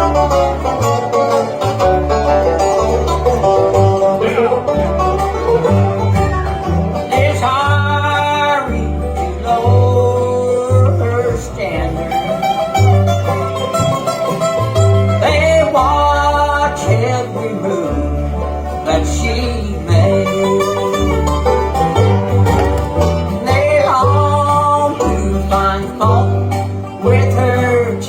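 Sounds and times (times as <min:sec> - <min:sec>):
bluegrass band playing: 0:00.0 - 0:28.0
walking bass line: 0:00.0 - 0:28.0.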